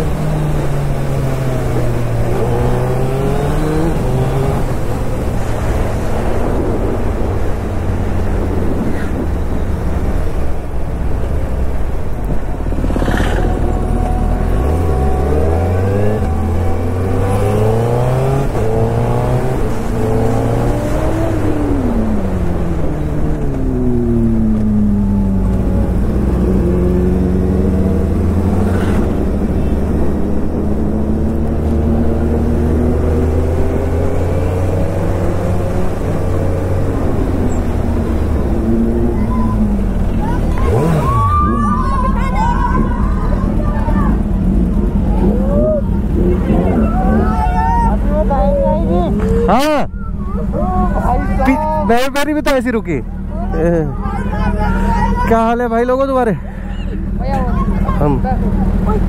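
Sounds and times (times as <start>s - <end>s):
motorcycle engine shifting gears: 0.0s - 53.8s.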